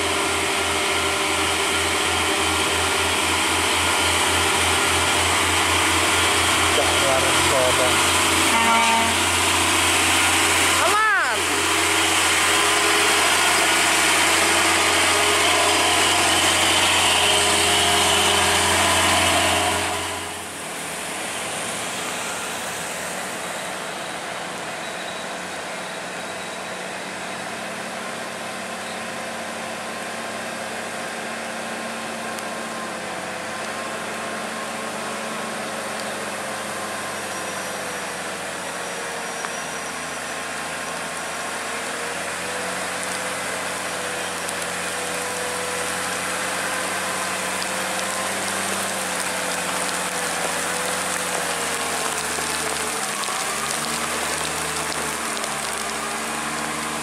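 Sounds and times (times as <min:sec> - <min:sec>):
truck diesel engine running: 0:00.0 - 0:57.0
truck engine labouring uphill: 0:00.0 - 0:57.0
truck tyres rolling: 0:00.0 - 0:57.0.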